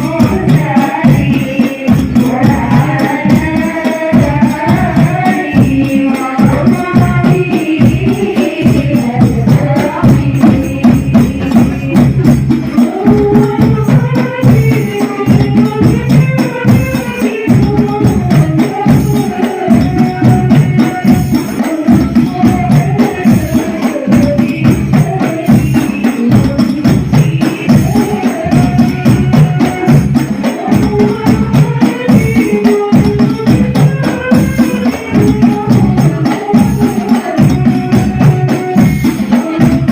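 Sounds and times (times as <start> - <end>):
frame drums beating fast rhythm: 0.0 - 39.9
voices singing devotional melody: 0.0 - 39.9.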